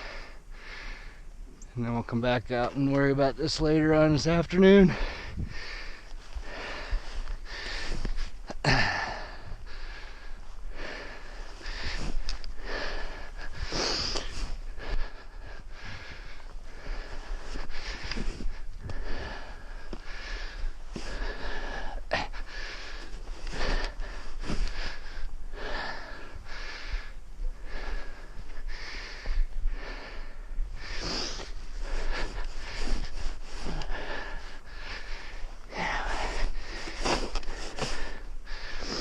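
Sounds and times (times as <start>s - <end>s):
man breathing hard: 0.0s - 1.4s, 4.8s - 39.0s.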